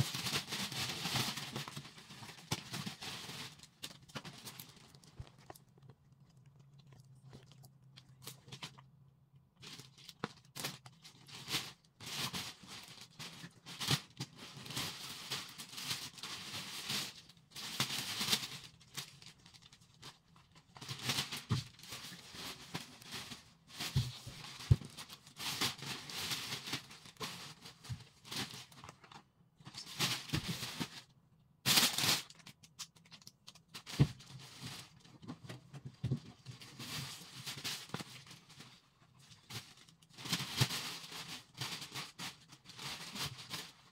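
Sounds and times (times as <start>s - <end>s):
plastic wrappers crinkling: 0.0s - 31.1s, 31.7s - 43.9s.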